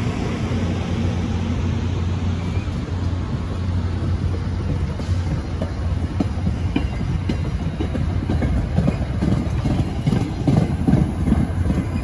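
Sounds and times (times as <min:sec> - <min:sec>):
train coaches rumbling past: 0:00.0 - 0:12.0
wheels clacking on rails: 0:00.0 - 0:12.0.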